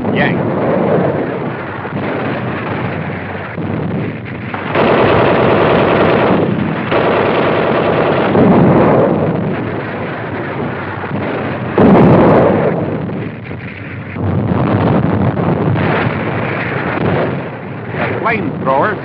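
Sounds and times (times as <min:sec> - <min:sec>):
rumbling battle noise: 0:00.0 - 0:19.0
machine-gun fire bursts: 0:00.2 - 0:18.2.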